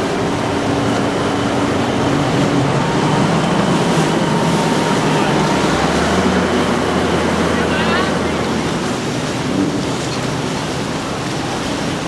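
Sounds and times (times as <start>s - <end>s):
outboard motors running: 0.0s - 12.0s
water rushing: 0.0s - 12.0s.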